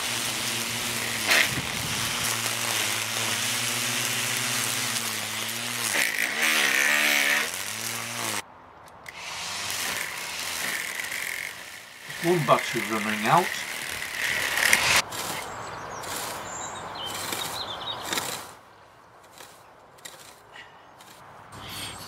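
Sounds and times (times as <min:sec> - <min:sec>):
string trimmer cutting grass: 0:00.0 - 0:08.4, 0:09.1 - 0:18.6, 0:19.2 - 0:20.4, 0:21.0 - 0:21.2.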